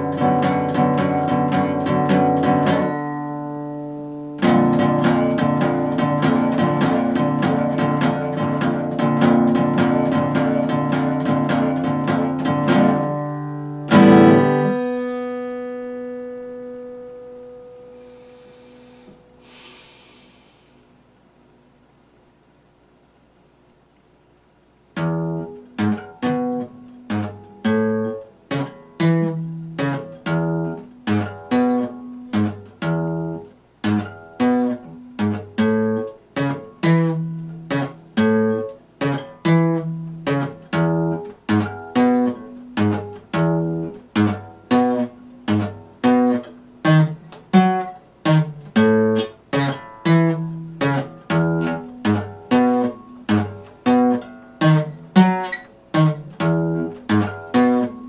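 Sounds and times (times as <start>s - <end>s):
acoustic guitar strumming chords: 0.0s - 21.2s, 24.8s - 58.0s.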